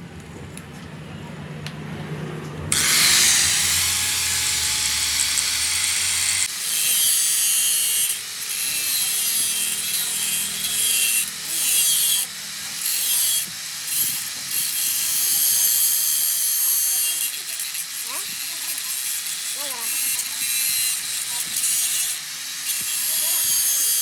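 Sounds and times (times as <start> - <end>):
power tool grinding steel: 2.7 - 24.0.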